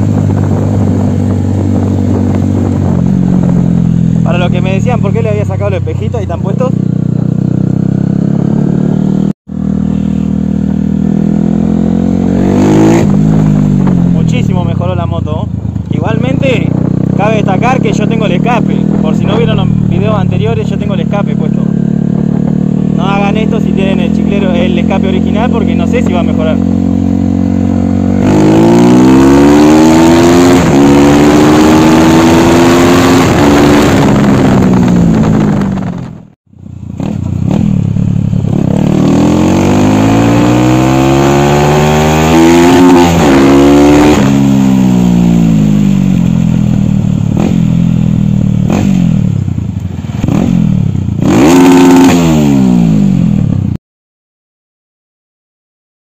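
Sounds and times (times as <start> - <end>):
motorcycle engine revving: 0.0 - 53.8.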